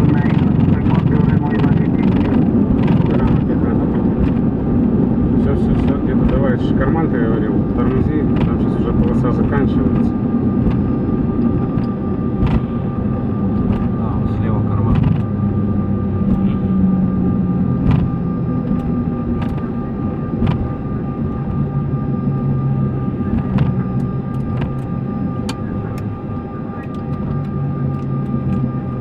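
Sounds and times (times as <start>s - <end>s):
jet engine hum: 0.0s - 29.0s.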